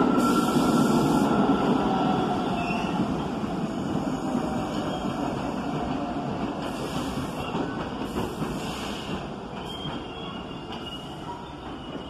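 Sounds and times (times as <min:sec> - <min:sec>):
subway train rumbling on tracks: 0:00.0 - 0:12.0.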